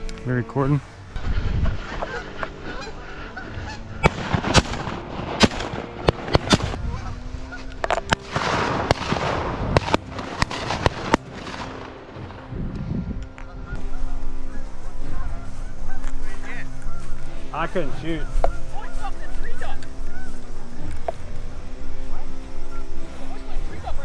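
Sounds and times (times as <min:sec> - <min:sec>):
geese honking: 0:00.0 - 0:12.5, 0:13.2 - 0:24.0.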